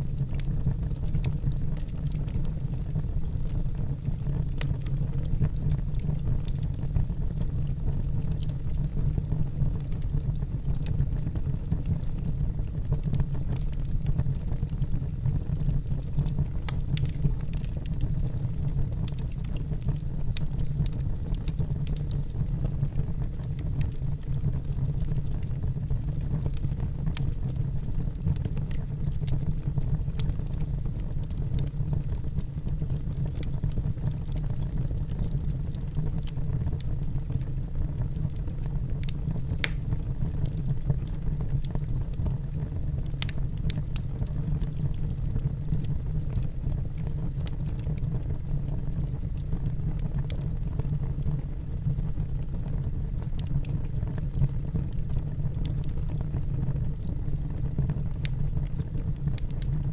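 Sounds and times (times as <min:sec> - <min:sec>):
burning wood crackling and popping: 0:00.0 - 0:59.9
campfire low rumble: 0:00.0 - 0:59.9.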